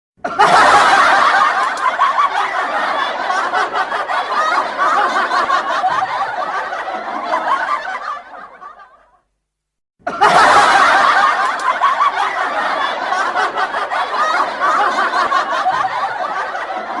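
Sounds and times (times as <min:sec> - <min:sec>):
audience laughing: 0:00.2 - 0:09.2, 0:10.0 - 0:17.0.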